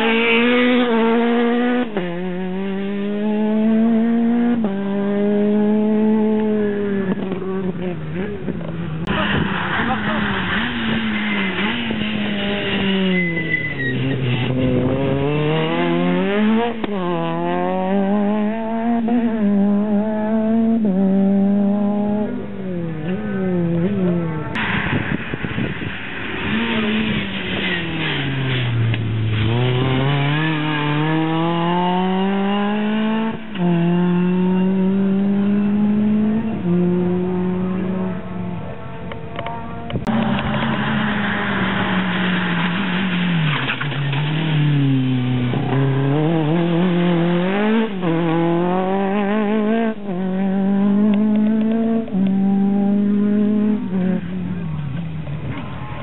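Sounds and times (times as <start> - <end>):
rally car engine revving past: 0.0 - 24.9, 25.8 - 56.0.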